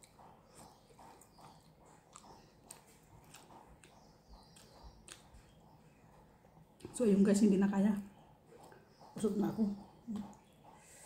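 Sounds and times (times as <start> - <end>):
faint chewing with wet clicks: 0.0 - 11.0.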